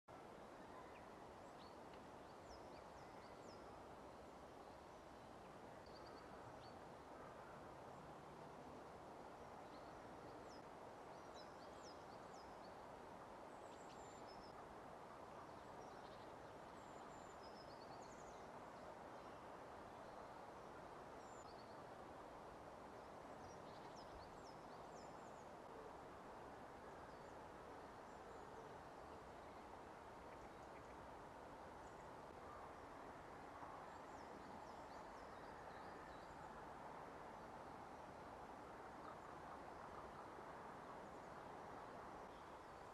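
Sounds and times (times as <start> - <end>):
faint outdoor background hiss: 0.0 - 42.9
songbirds chirping: 0.1 - 42.9.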